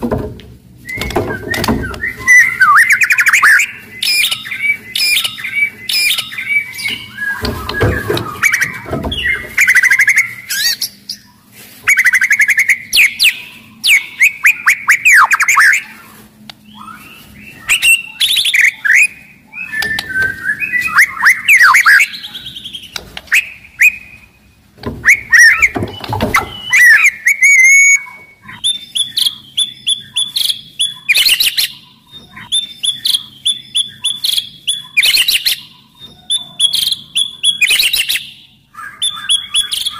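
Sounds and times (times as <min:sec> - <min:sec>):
bird singing whistles and trills: 0:00.8 - 0:39.9.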